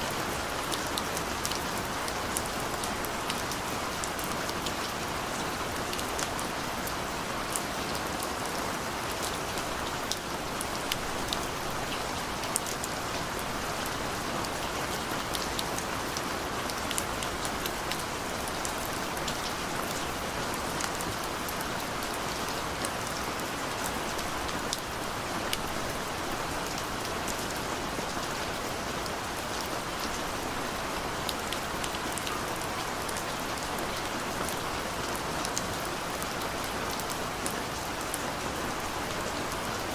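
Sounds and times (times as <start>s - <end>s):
steady rain hiss: 0.0s - 39.9s
raindrops ticking on a surface: 0.1s - 39.9s.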